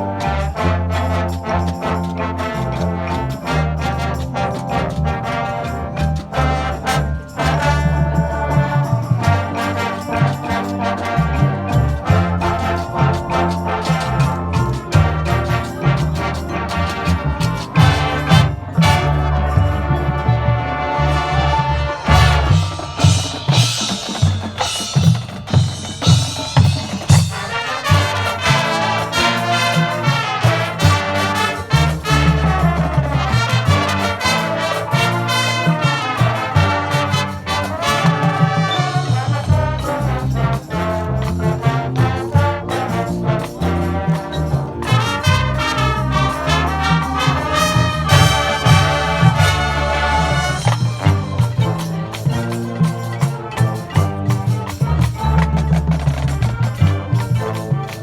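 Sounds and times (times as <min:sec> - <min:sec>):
marching band playing: 0:00.0 - 0:58.0.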